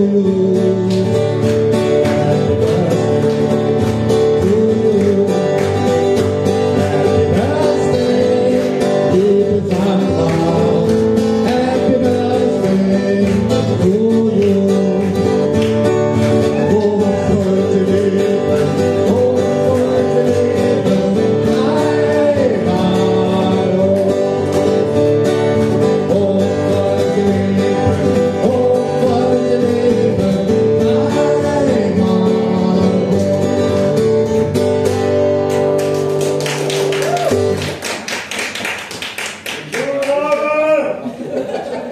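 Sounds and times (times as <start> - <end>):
man singing: 0.0 - 34.3
acoustic guitar strumming: 0.0 - 37.8
people clapping: 0.3 - 29.9, 30.8 - 41.9.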